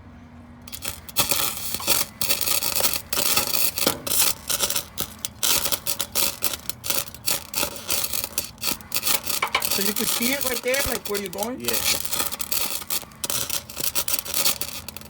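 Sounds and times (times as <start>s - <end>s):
welding arc crackling: 0.6s - 15.0s.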